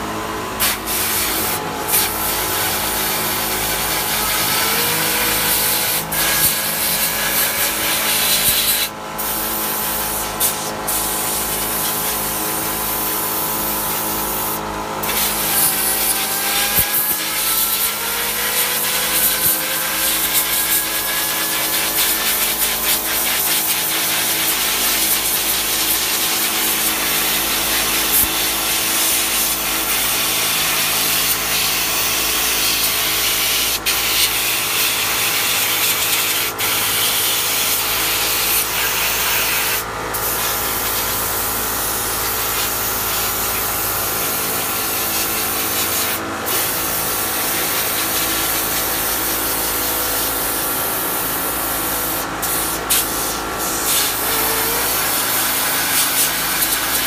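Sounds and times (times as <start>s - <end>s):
pump motor humming: 0.0s - 57.0s
pressure washer spray hissing: 0.6s - 57.0s.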